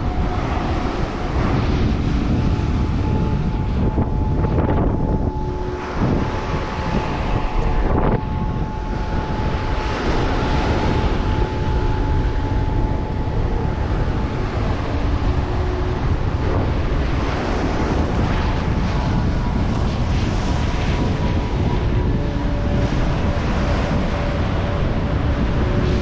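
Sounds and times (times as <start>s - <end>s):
thin steady tone: 0.0s - 26.0s
waves breaking on shore: 0.0s - 26.0s
wind buffeting microphone: 0.0s - 26.0s.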